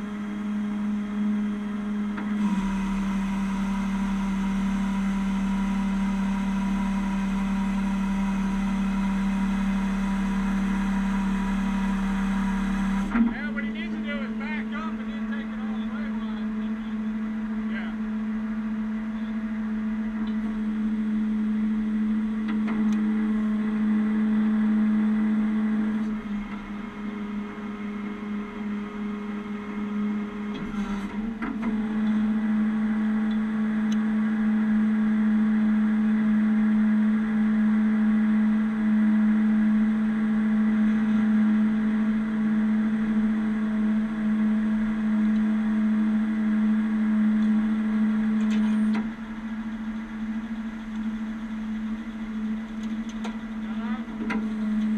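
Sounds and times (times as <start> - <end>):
truck engine humming: 0.0 - 54.9.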